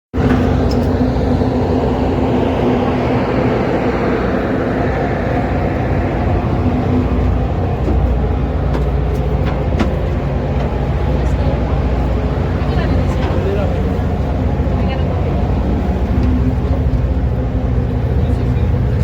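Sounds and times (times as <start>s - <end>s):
ferry engines rumbling: 0.1s - 19.0s.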